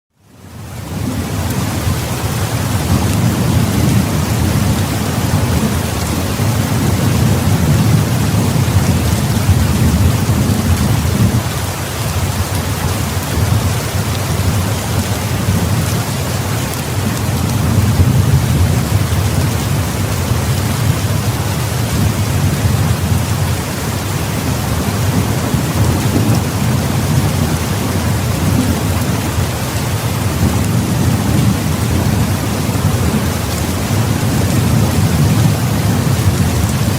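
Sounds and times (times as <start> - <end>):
heavy rain pouring: 0.1 - 36.9.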